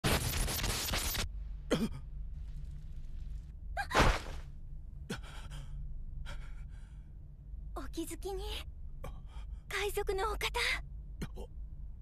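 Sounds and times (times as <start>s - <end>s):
steady low hum: 1.1s - 12.0s.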